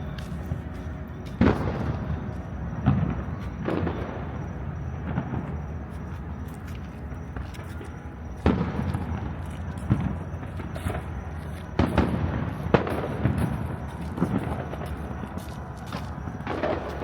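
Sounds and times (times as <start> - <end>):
distant fireworks booming: 1.3 - 6.4, 8.3 - 17.0.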